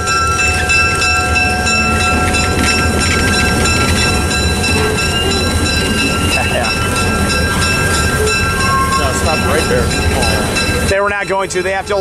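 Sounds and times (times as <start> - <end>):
diesel locomotive rumbling: 0.0 - 12.0
high-pitched tones: 0.0 - 12.0.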